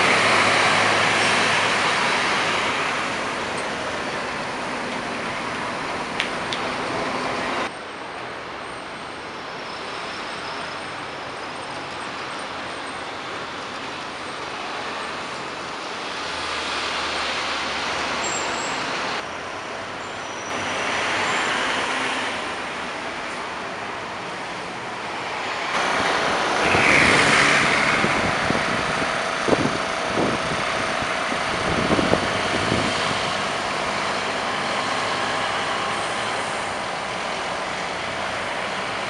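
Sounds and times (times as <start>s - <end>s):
diesel bus driving past: 0.0s - 7.7s, 8.4s - 39.0s
road traffic noise: 0.0s - 39.0s.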